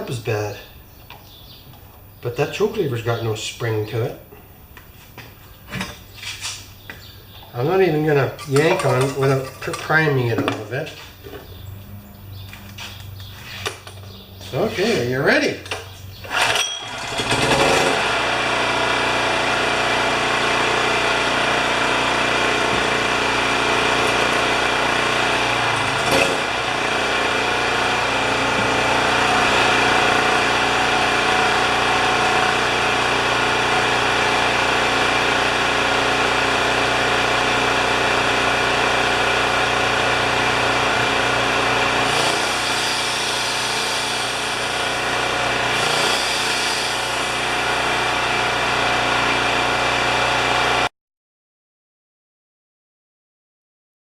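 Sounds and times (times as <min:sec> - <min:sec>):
generator pull-start: 0:05.6 - 0:15.0, 0:15.6 - 0:50.8
generator engine running: 0:06.8 - 0:50.9.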